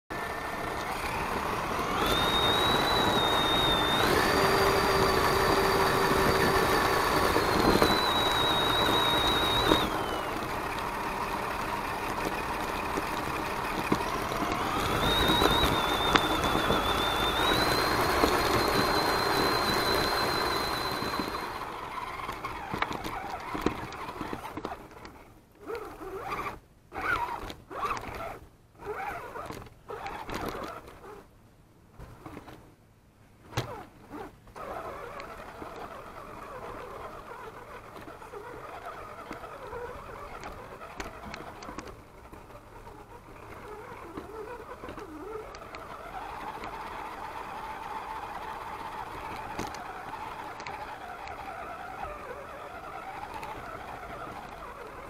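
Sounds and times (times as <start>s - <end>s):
rc truck motor whining: 0.1s - 31.3s, 33.5s - 55.0s.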